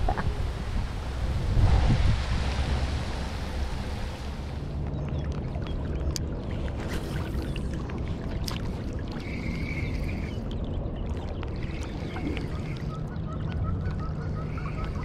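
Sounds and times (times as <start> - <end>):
river current rushing and lapping: 0.0 - 15.0.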